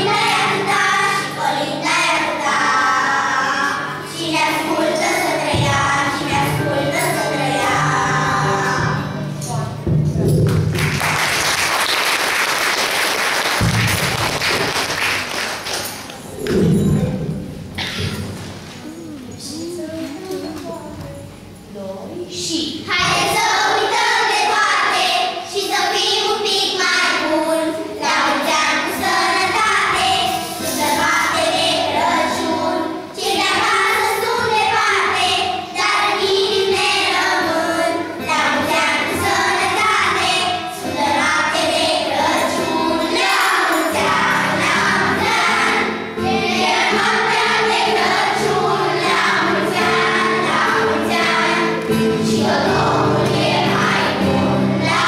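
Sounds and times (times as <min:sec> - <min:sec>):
children's choir singing: 0:00.0 - 0:18.6, 0:22.8 - 0:55.0.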